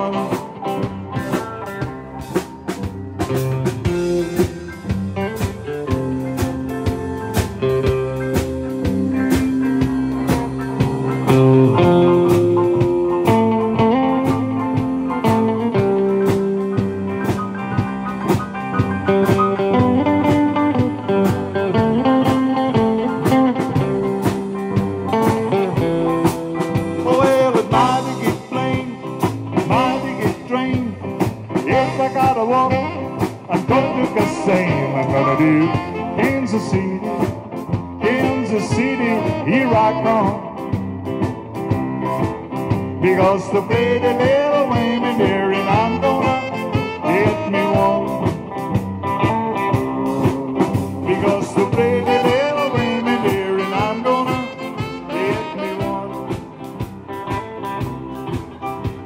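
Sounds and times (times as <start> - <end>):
bending guitar notes: 0.0 - 59.0
live rock band playing: 0.0 - 59.0.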